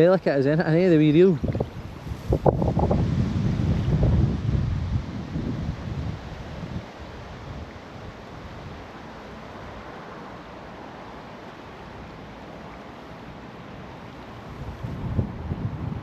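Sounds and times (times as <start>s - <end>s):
river water rushing over shallows: 0.0s - 16.0s.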